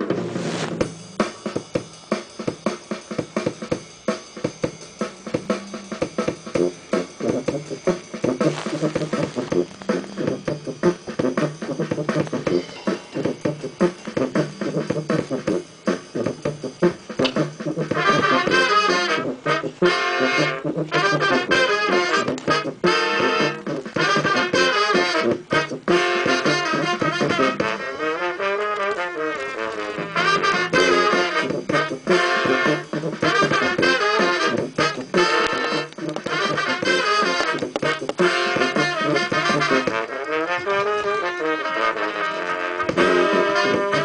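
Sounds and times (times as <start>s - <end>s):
brass band horns playing: 5.4s - 44.0s.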